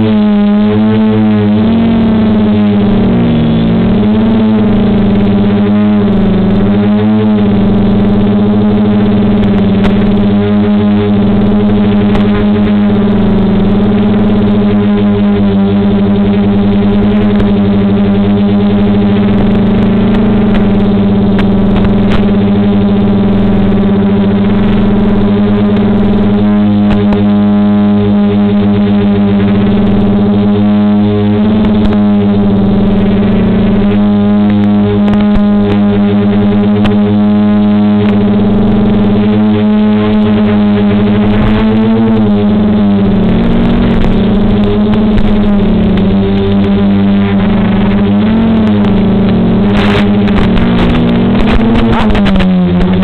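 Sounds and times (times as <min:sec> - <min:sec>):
quadcopter motors humming: 0:00.0 - 0:53.0.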